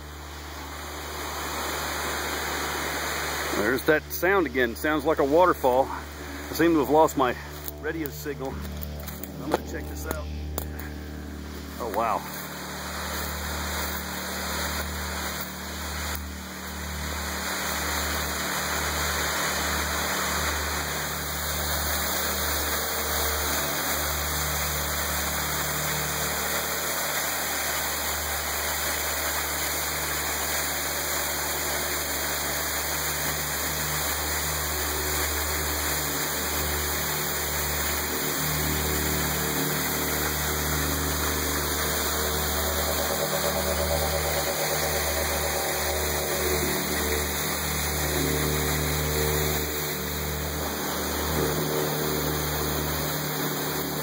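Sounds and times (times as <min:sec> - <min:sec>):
waterfall pouring: 0:00.0 - 0:54.0.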